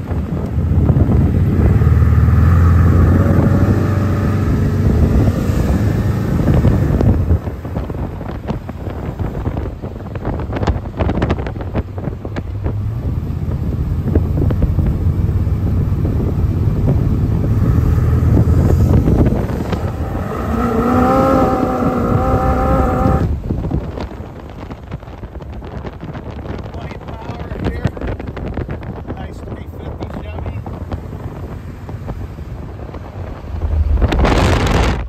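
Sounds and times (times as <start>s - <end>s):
car engine accelerating: 0.0s - 24.0s, 30.6s - 35.0s
wind buffeting microphone: 0.0s - 35.0s.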